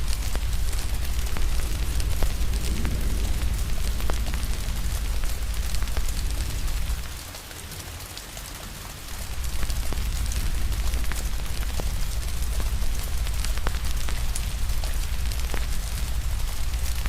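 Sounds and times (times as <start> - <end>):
deep low rumble: 0.0 - 7.3, 9.2 - 17.0
rain hiss: 0.0 - 17.0
wood fire crackling: 0.0 - 17.0.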